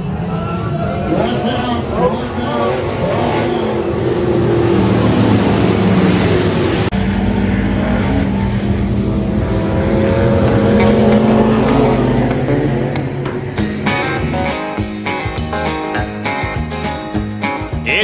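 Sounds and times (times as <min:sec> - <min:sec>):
stock car engines racing: 0:00.0 - 0:16.4.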